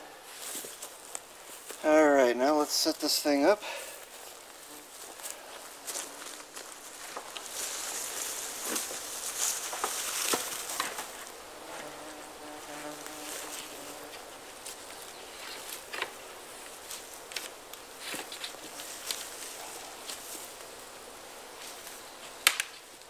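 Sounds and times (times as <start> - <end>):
rustling: 0.0 - 23.0
flying insect buzzing: 3.7 - 23.0.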